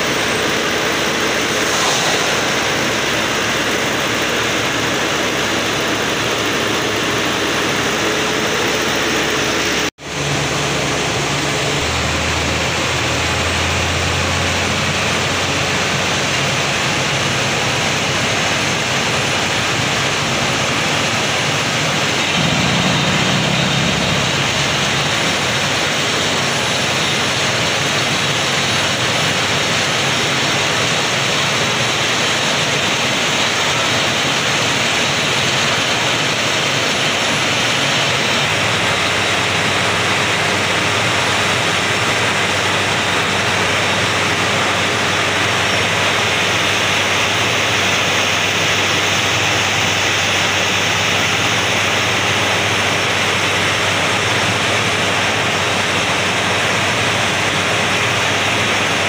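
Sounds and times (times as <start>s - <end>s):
drilling machine roaring: 0.0s - 59.0s.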